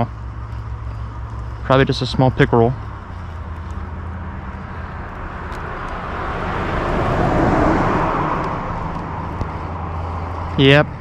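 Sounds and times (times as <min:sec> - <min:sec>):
steady low hum: 0:00.0 - 0:11.0
vehicle passing: 0:00.0 - 0:11.0.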